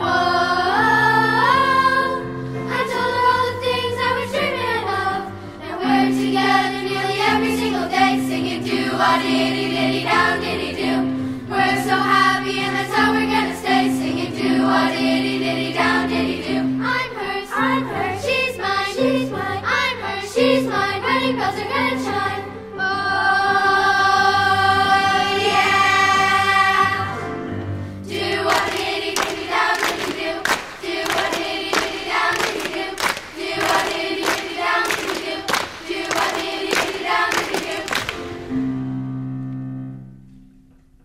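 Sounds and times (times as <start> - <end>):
children's choir singing: 0.0 - 38.6.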